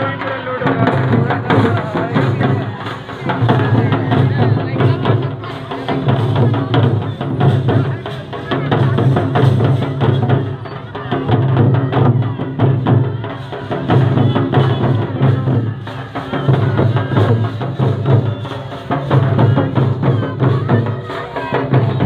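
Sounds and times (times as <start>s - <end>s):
hand-beaten barrel drums: 0.0s - 22.0s
voices singing over drums: 0.0s - 22.0s.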